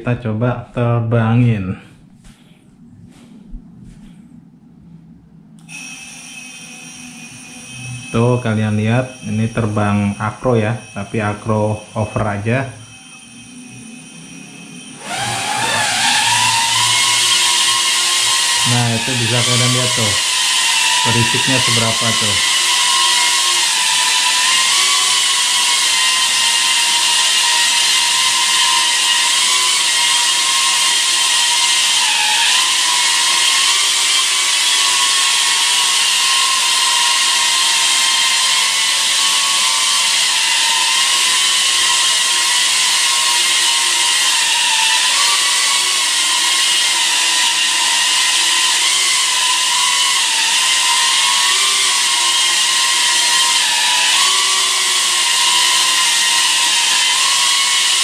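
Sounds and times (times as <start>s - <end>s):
drone propellers whining: 1.8s - 58.0s.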